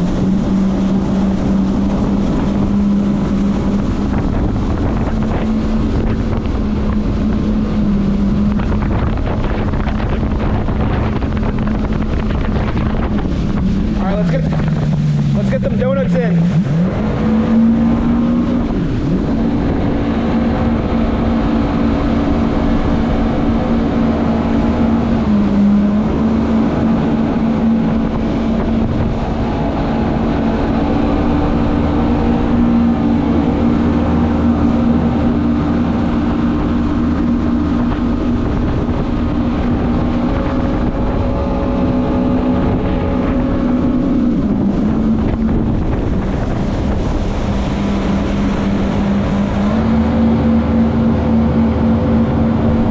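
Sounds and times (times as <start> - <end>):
jet ski engine running: 0.0 - 52.9
wind on microphone: 0.0 - 52.9.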